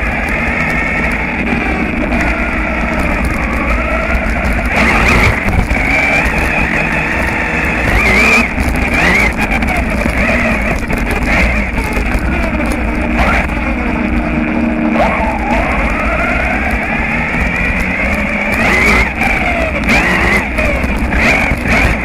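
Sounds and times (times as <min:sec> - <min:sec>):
electric motor whine: 0:00.0 - 0:22.0
tyres crunching on gravel: 0:00.0 - 0:22.0.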